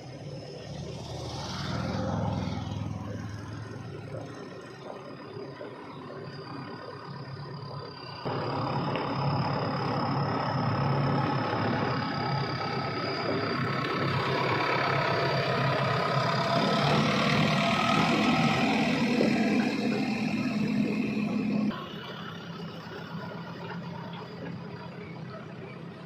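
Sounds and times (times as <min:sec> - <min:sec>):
diesel machinery engine running: 0:00.0 - 0:26.0
high whine: 0:02.0 - 0:26.0.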